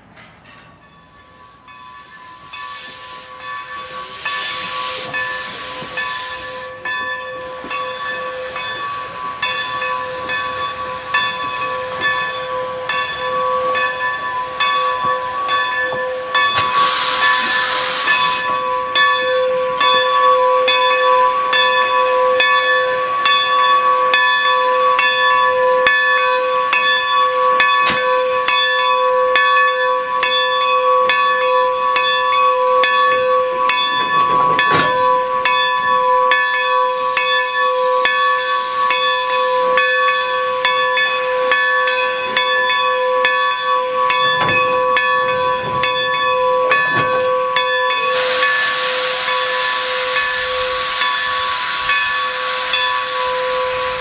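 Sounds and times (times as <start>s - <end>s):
locomotive bell ringing: 0.0s - 54.0s
steam hissing: 1.3s - 28.6s, 30.0s - 54.0s.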